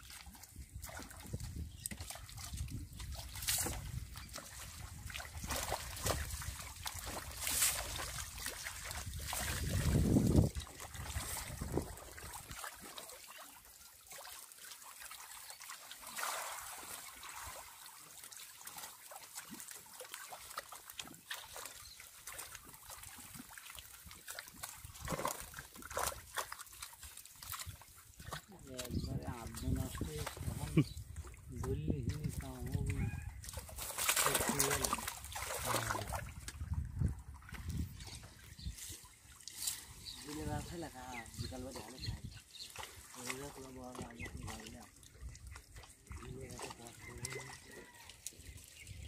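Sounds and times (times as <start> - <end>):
water trickling and splashing: 0.0 - 49.0.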